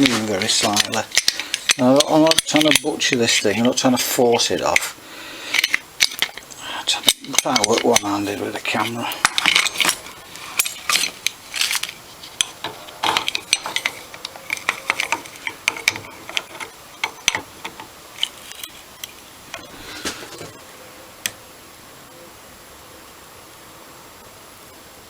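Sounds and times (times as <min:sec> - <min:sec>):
hand tool clinking on metal: 0:00.0 - 0:20.6.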